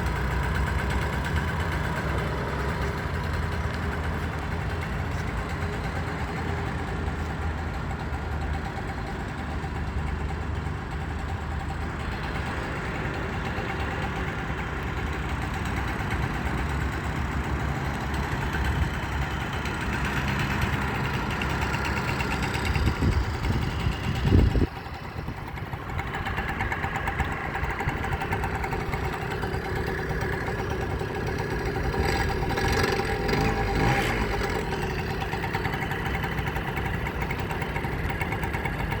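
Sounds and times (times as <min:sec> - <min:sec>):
small gasoline engine running: 0:00.0 - 0:39.0.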